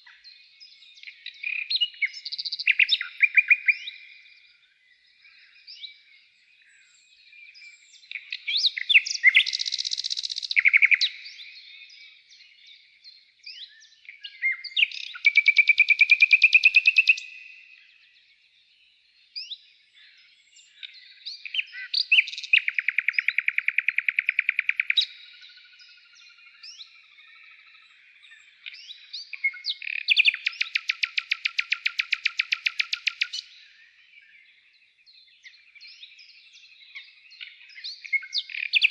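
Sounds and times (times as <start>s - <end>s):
bird chirps and whistled notes: 0.0s - 38.9s
songbird trilling: 1.0s - 4.3s, 6.7s - 12.2s, 13.5s - 17.8s, 19.4s - 34.5s, 35.3s - 38.9s.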